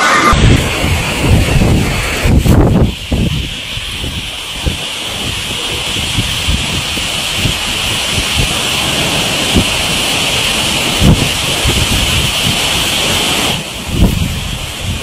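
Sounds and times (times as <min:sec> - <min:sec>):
heavy rain downpour: 0:00.0 - 0:15.0
wind thumping on microphone: 0:00.0 - 0:15.0.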